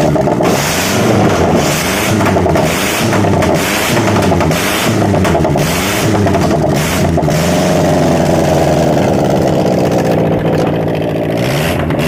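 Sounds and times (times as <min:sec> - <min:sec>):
petrol engine revving: 0:00.0 - 0:12.0.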